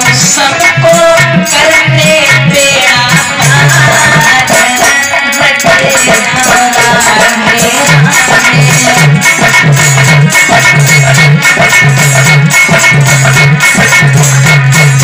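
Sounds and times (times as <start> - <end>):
drums with low pulse: 0.0 - 15.0.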